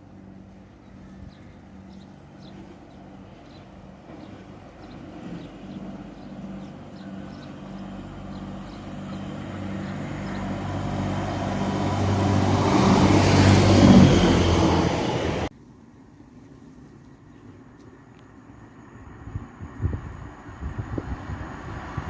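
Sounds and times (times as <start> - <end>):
diesel train engine approaching: 0.0 - 15.5, 18.3 - 22.0.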